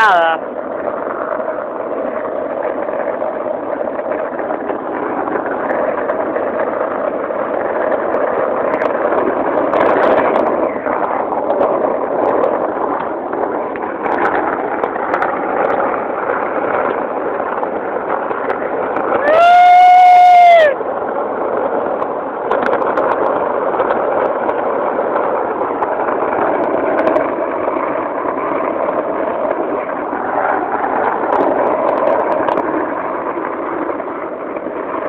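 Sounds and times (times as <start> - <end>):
skateboard wheels rolling on asphalt: 0.0 - 35.0.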